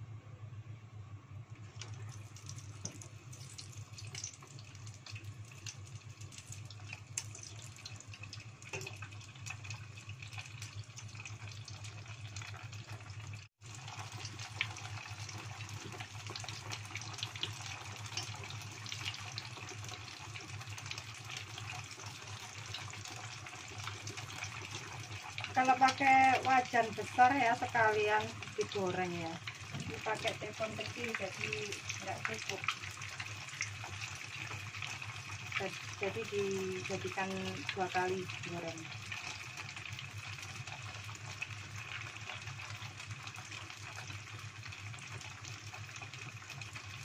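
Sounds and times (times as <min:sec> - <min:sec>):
oil sizzling and crackling: 0:01.3 - 0:47.0.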